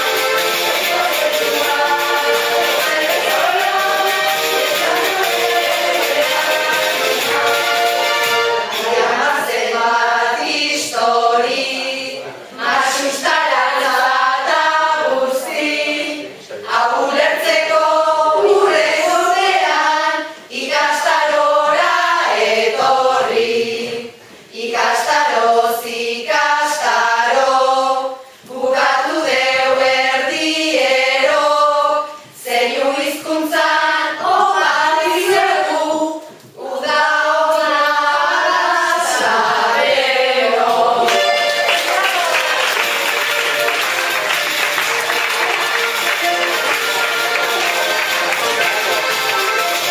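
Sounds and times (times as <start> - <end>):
group of voices singing: 0.0 - 49.9.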